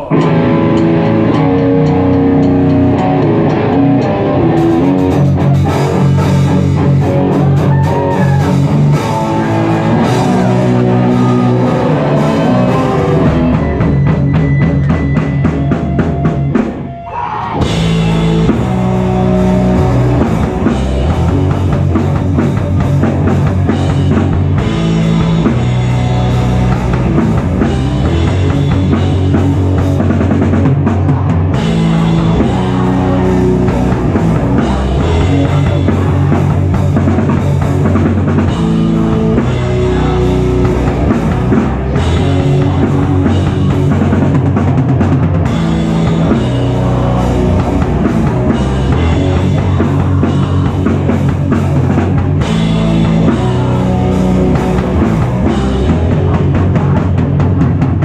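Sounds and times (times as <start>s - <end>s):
fast drumming: 0.0s - 17.0s, 17.6s - 58.0s
live rock band: 0.0s - 58.0s.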